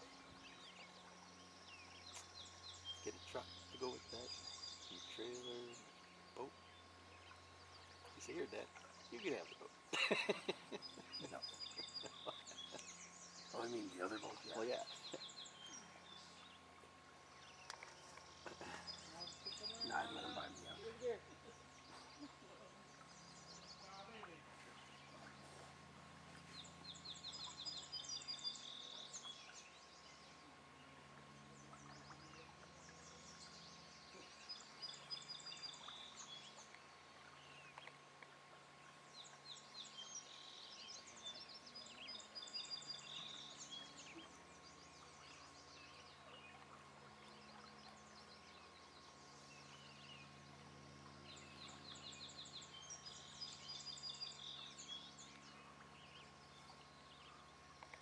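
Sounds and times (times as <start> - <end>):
faint low hum: 0.0 - 58.0
songbird singing: 0.0 - 58.0.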